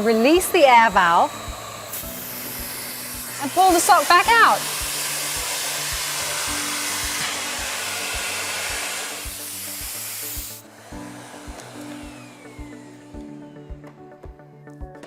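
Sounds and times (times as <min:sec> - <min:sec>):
faint background music with beat: 0:00.0 - 0:15.0
vacuum cleaner running: 0:00.0 - 0:15.0.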